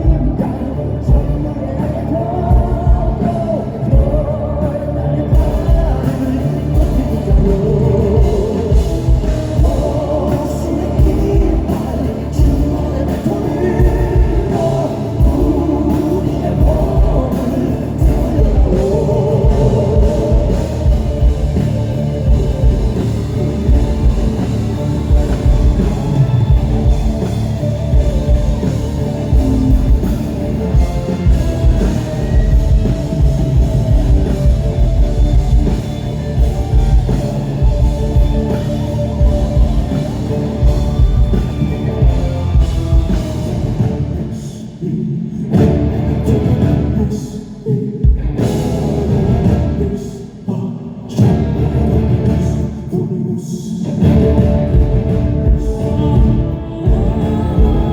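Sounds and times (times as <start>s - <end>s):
rock band playing: 0.0s - 50.4s, 51.2s - 52.9s, 53.8s - 57.9s
men singing a rock song: 0.0s - 57.9s.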